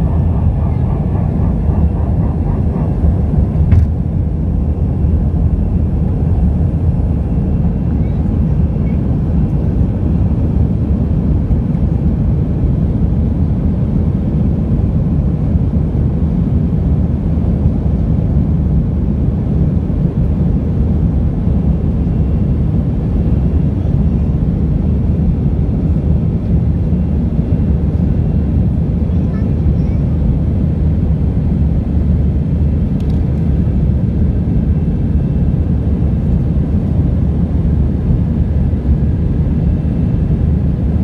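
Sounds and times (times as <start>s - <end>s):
jet engines rumbling: 0.0s - 41.0s.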